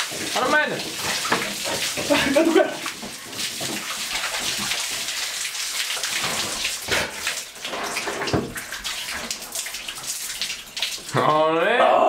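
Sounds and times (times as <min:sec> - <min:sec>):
water pouring from jug: 0:00.0 - 0:11.3
water splashing on shower floor: 0:00.0 - 0:11.6.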